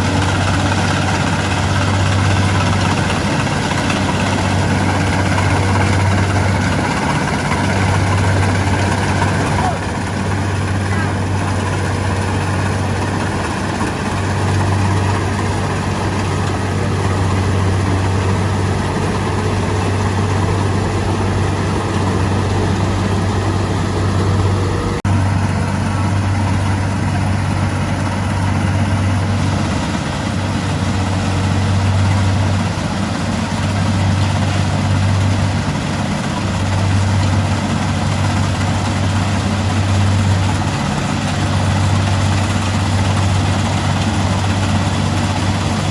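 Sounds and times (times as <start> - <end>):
diesel engine running under load: 0.0 - 45.9
machinery noise: 0.0 - 45.9.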